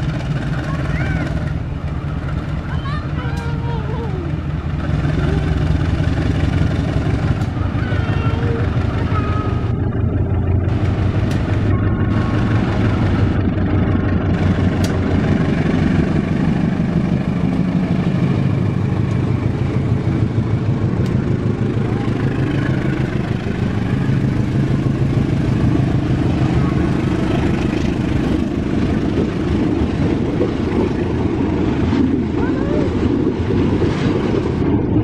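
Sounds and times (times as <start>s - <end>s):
locomotive engine running: 0.0s - 35.0s
train coaches rolling on rails: 0.0s - 35.0s.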